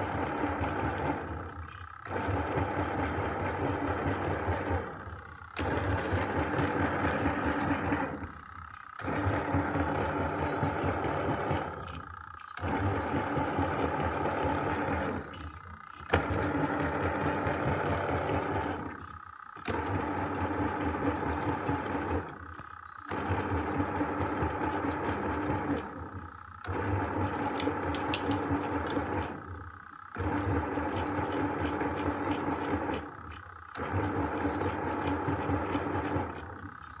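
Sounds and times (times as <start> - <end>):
washing machine motor running: 0.0 - 37.0.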